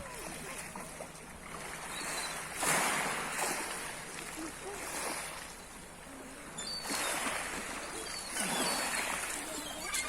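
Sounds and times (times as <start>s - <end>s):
sea waves washing on shore: 0.0s - 10.0s.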